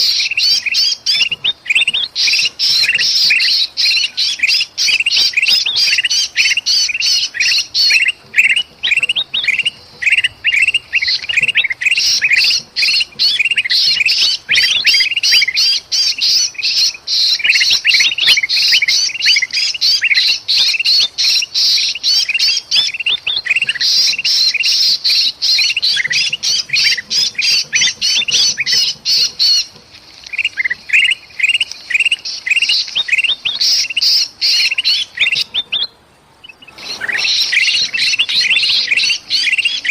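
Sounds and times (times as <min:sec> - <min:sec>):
birds squawking in alarm: 0:00.0 - 0:39.9.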